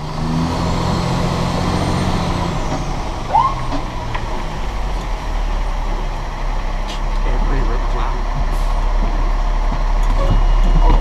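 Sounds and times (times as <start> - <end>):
fire engine rumbling: 0.0 - 11.0
low engine hum: 0.0 - 11.0.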